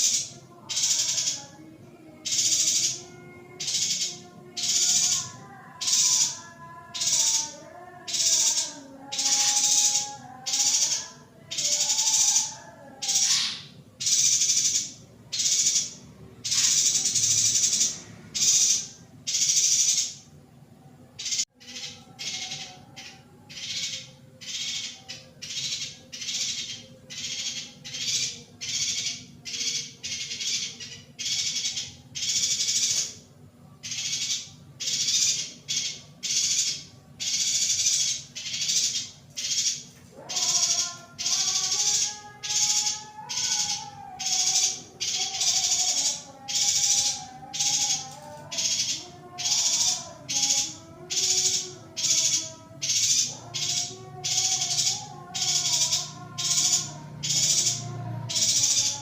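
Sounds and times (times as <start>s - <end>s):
bird buzzy chirps: 0.0s - 20.4s, 21.1s - 59.0s.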